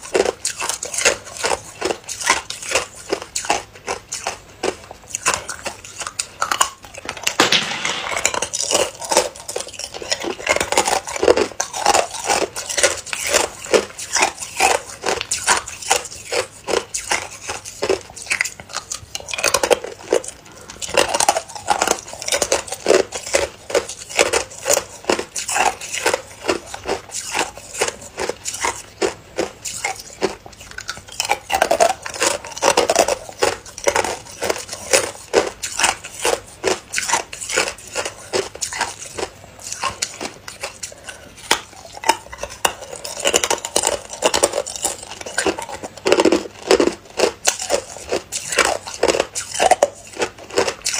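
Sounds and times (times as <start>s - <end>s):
ice crunching between teeth: 0.0s - 50.9s.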